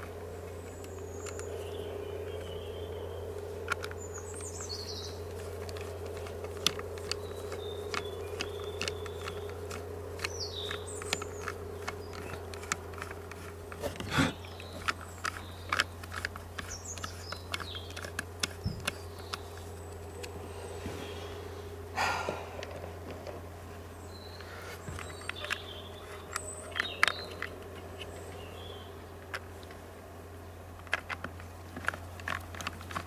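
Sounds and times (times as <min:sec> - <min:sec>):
birds chirping: 0:00.0 - 0:33.0
steady low hum: 0:00.0 - 0:33.0.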